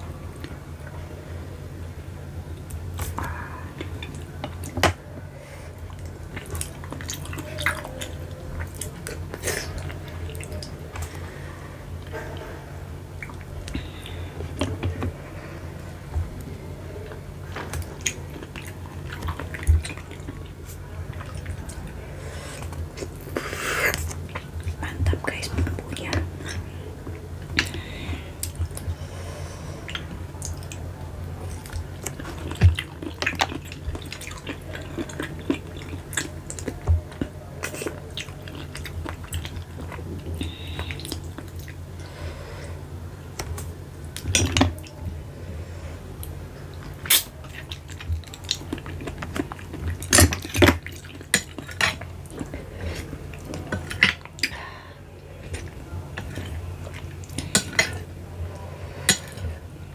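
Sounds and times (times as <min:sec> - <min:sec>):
steady low hum: 0:00.0 - 0:59.9
wet chewing: 0:02.5 - 0:12.6, 0:13.2 - 0:42.3, 0:46.1 - 0:59.6.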